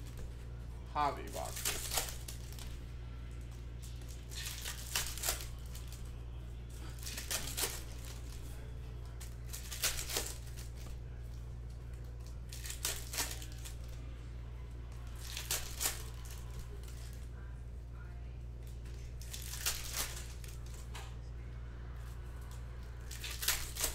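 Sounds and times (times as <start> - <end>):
low hum: 0.0 - 23.9
wrappers crinkling and tearing: 1.0 - 2.8, 3.4 - 14.1, 14.9 - 17.5, 18.6 - 21.0, 22.0 - 23.9.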